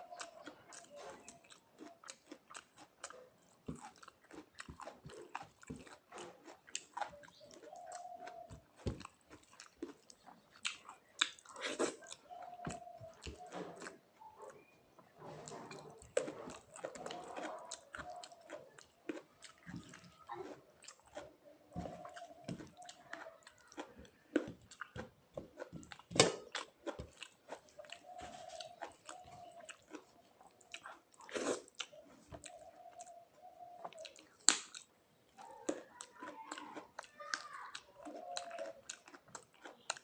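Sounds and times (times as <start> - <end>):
food crunching: 0.0 - 40.0
person chewing food: 0.0 - 40.0.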